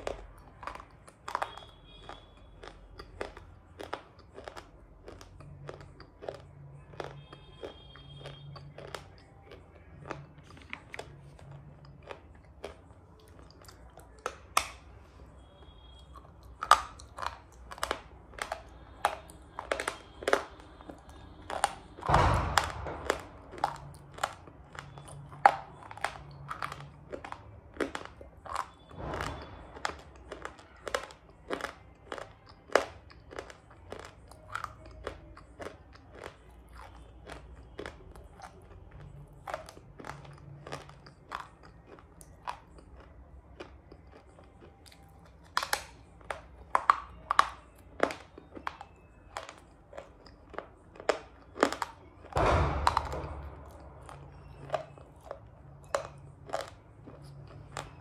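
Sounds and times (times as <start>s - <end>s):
person chewing brittle clay: 0.0s - 58.0s.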